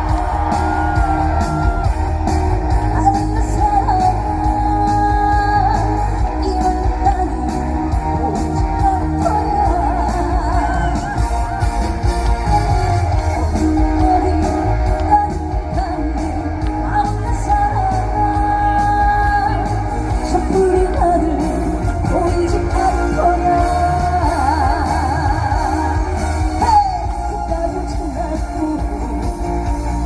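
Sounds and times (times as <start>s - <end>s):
band with guitar: 0.0s - 30.0s
person singing with vibrato: 2.6s - 30.0s.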